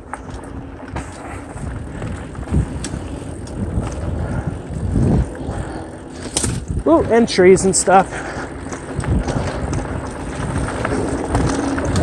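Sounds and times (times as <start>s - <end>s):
bike bumps: 0.0s - 12.0s
bike tyres rumbling on dirt: 0.0s - 12.0s
wind on microphone: 0.6s - 12.0s.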